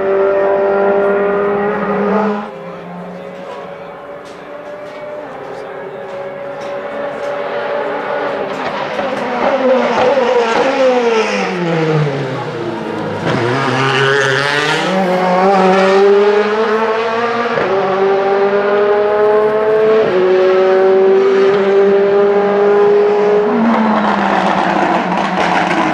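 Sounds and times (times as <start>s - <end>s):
racing car engine: 0.0s - 25.9s.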